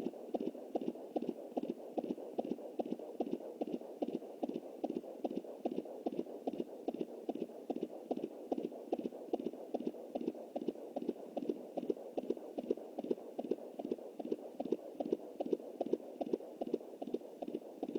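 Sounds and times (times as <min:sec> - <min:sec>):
whooshing fetal heartbeat: 0:00.0 - 0:17.9.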